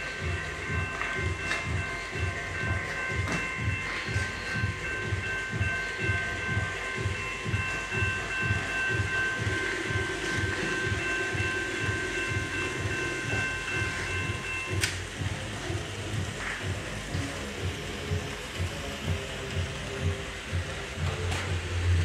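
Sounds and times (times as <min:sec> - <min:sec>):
steady high whine: 0:00.0 - 0:22.0
train clickety-clack: 0:00.0 - 0:22.0.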